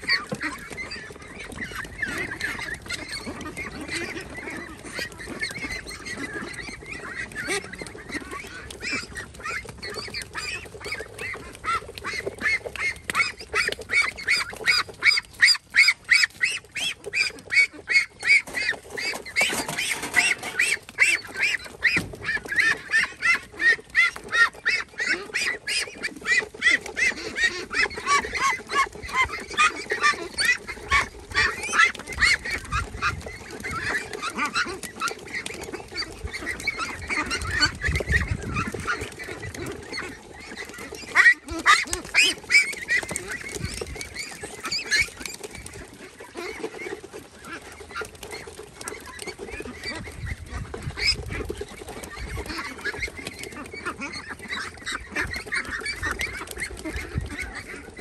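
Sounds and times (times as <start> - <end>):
flock of birds calling: 0.0 - 58.0
waterfowl honking: 0.0 - 58.0.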